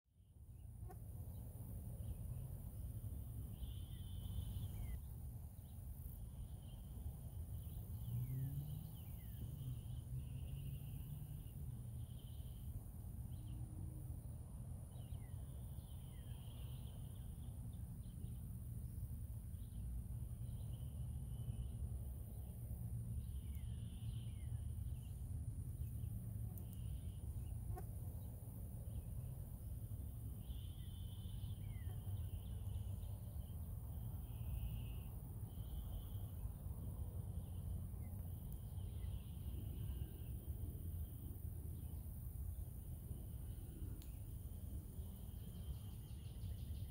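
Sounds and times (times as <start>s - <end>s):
insects droning: 0.3s - 46.9s.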